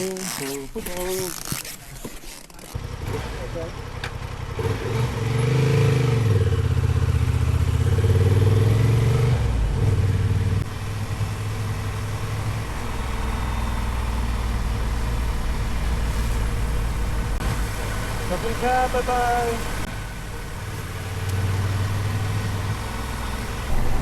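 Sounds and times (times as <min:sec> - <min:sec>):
motorcycle engine pulling away: 0:02.8 - 0:18.3, 0:19.9 - 0:24.0.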